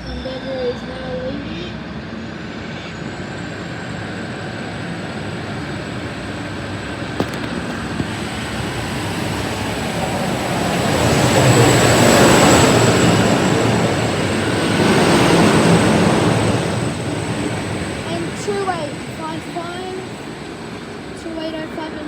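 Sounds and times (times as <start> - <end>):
diesel railcar pulling away: 0.0 - 21.2.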